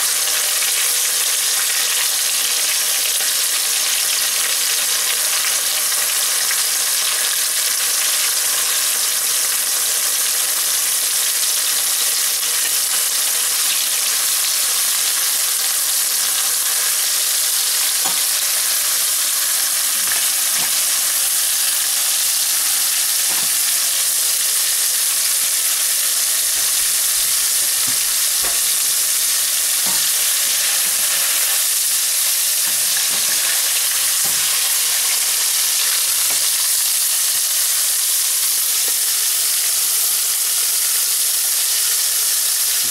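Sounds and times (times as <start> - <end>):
fish sizzling in hot oil: 0.0 - 42.9.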